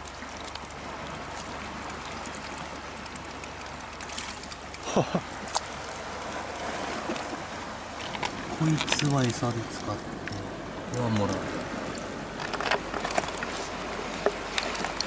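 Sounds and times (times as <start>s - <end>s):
water lapping against rocks: 0.0s - 15.0s.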